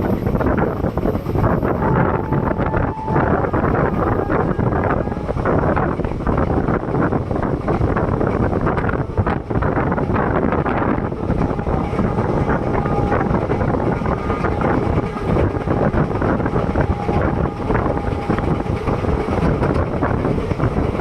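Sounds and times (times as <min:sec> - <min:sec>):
wheels rumbling on rails: 0:00.0 - 0:21.0
wind buffeting microphone: 0:00.0 - 0:21.0.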